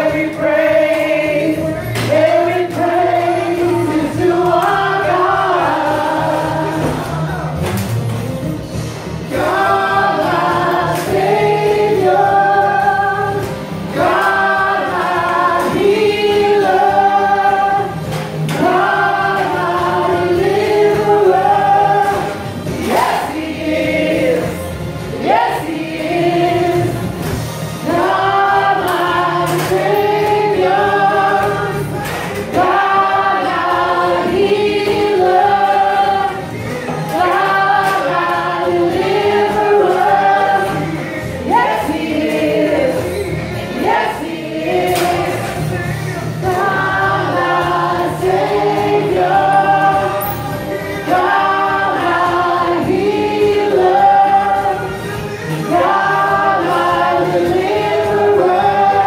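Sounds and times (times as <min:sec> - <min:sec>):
group singing gospel song: 0:00.0 - 0:59.0.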